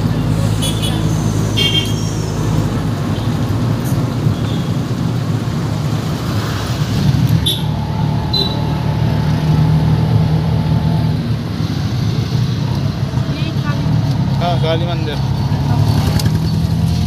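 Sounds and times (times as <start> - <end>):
car engine and road rumble: 0.0 - 17.0
city traffic: 0.0 - 17.0.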